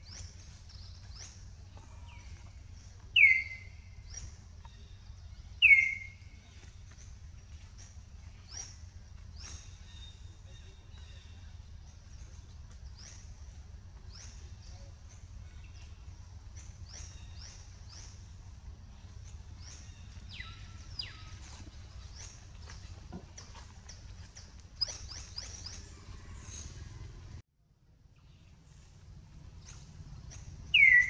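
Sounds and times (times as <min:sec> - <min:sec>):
steady low rumble: 0:00.0 - 0:30.8.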